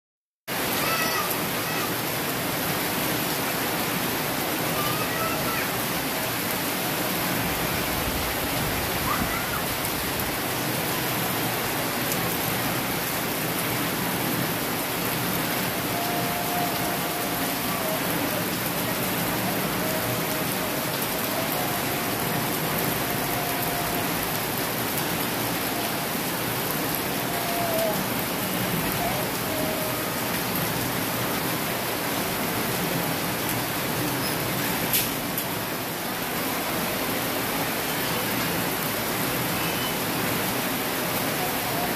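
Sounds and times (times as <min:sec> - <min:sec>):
heavy rain pouring: 0:00.5 - 0:41.9.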